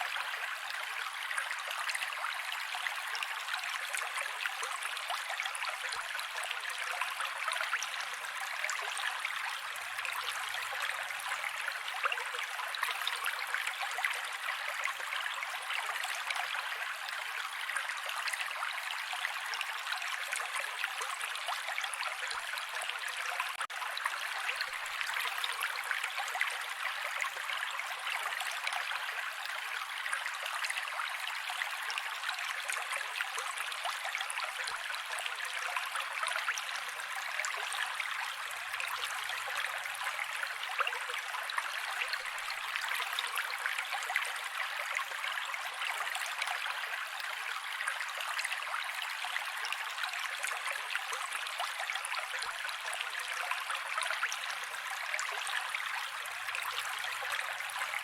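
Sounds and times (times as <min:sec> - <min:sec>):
creek flowing over rocks: 0:00.0 - 0:58.0.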